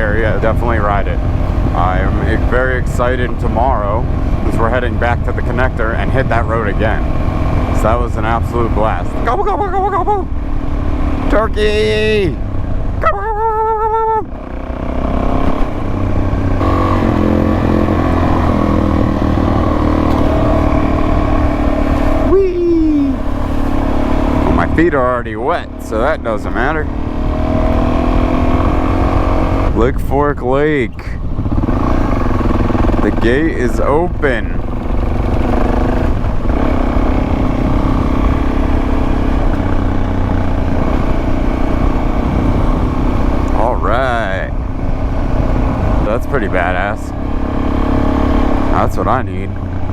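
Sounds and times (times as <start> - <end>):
motorcycle engine running: 0.0 - 49.9
road and wind rumble: 0.0 - 49.9.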